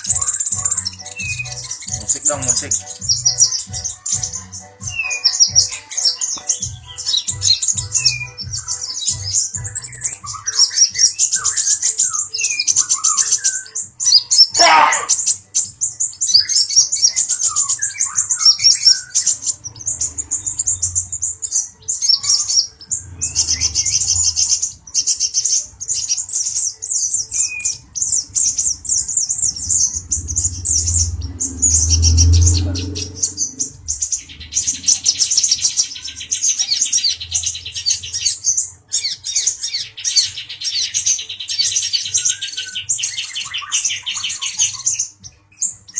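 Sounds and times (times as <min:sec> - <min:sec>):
bird singing high-pitched twittering: 0:00.0 - 0:45.9.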